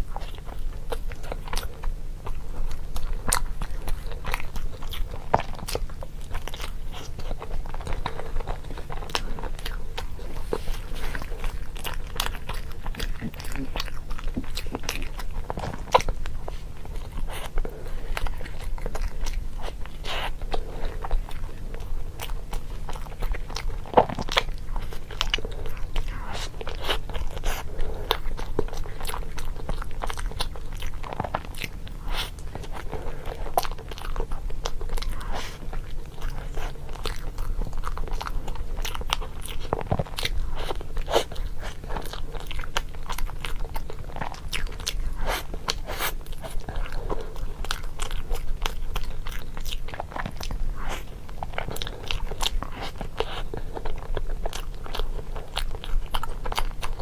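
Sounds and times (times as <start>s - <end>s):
crunchy food being chewed: 0.0s - 57.0s
steady low hum: 0.0s - 57.0s.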